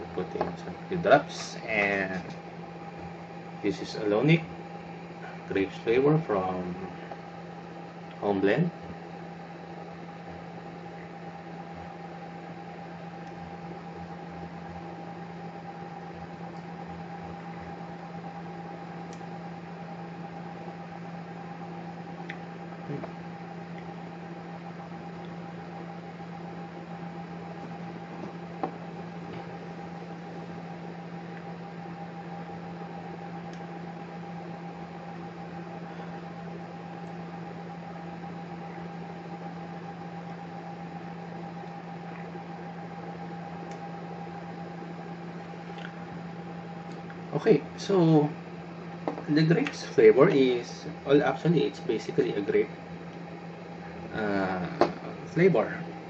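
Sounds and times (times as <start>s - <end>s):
steady hum with hiss: 0.0s - 56.0s.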